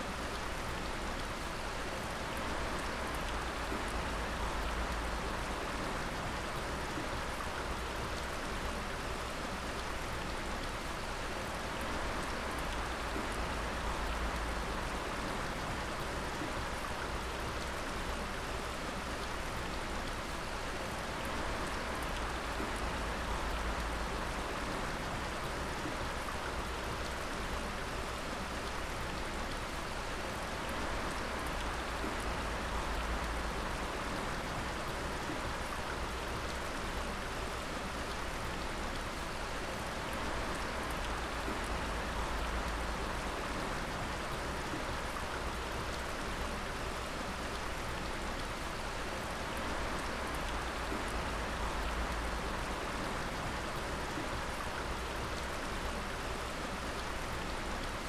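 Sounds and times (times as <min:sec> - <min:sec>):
water dripping onto water and rock: 0:00.1 - 0:58.0.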